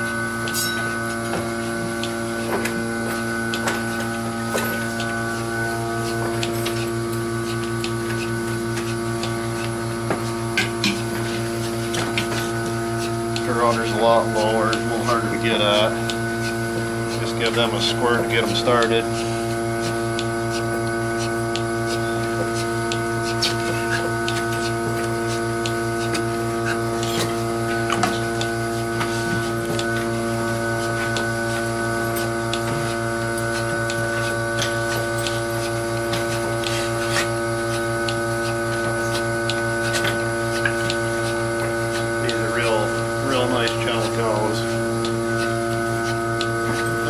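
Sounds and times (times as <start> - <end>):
vacuum pump humming: 0.0 - 47.0.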